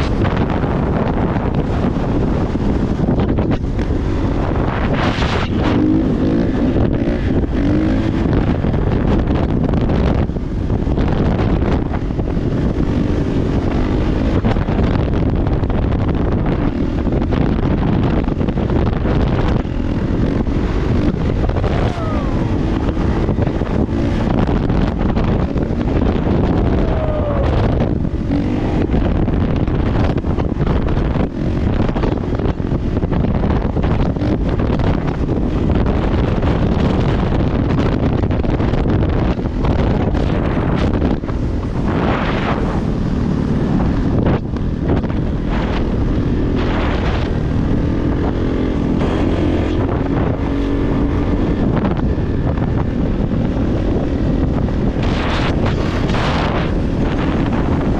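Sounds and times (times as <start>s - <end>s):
dirt bike engine revving: 0.0s - 32.6s, 33.2s - 57.9s
wind noise on microphone: 0.0s - 57.9s.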